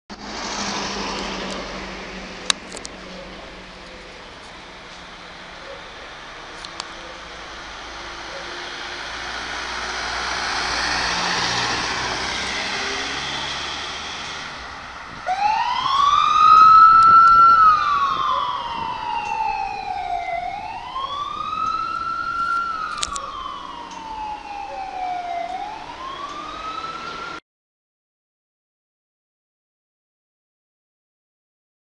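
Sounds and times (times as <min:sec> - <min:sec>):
van engine and tyres passing: 0:00.1 - 0:27.4
ambulance siren wailing: 0:00.7 - 0:27.4.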